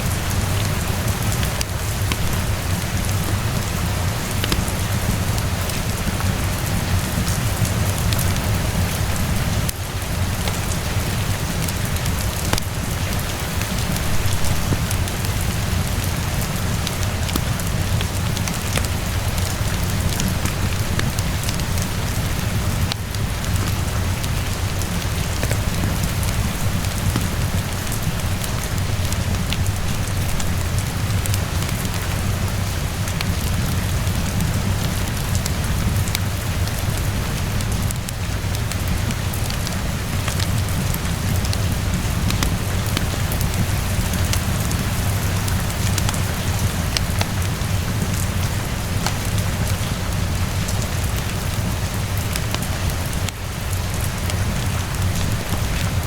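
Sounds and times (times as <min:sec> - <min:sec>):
heavy rainfall: 0:00.0 - 0:56.0
wood fire crackling: 0:00.1 - 0:56.0.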